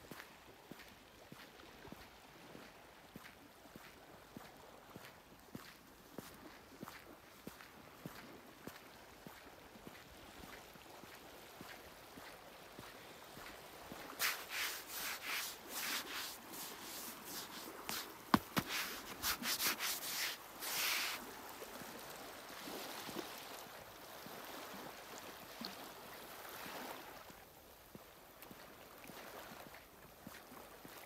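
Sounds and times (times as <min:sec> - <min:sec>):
small waves lapping and splashing: 0:00.0 - 0:31.0.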